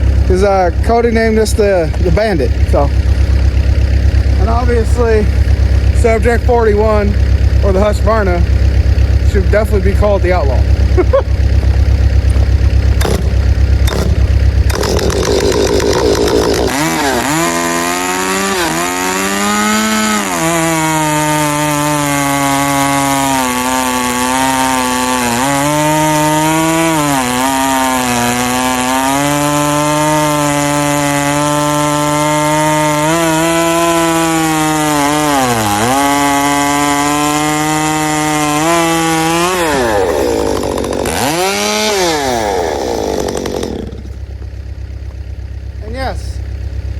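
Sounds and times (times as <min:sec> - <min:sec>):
chainsaw cutting through wood: 0:00.0 - 0:44.5
chainsaw idling: 0:00.0 - 0:46.9.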